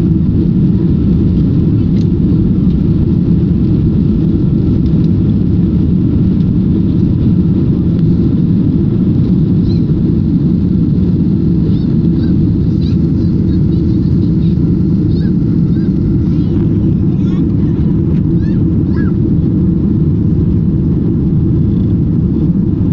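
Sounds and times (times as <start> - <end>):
jet engines low rumble: 0.0 - 22.9.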